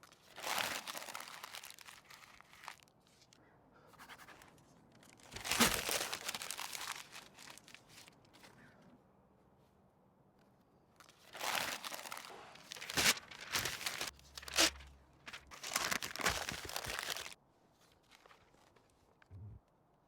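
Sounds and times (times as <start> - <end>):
rustling and crinkling: 0.0 - 3.4, 4.0 - 8.7, 9.5 - 19.3.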